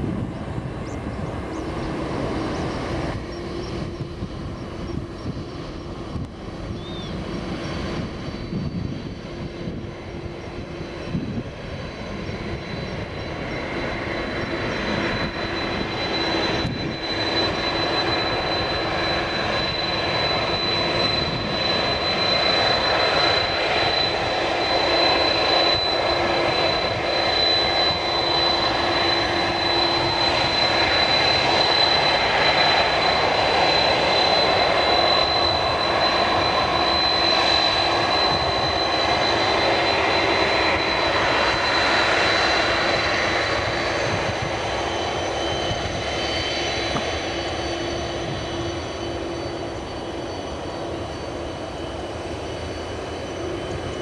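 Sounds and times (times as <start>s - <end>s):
jet engine rushing roar: 0.0s - 54.0s
jet engines high-pitched whine: 0.0s - 54.0s.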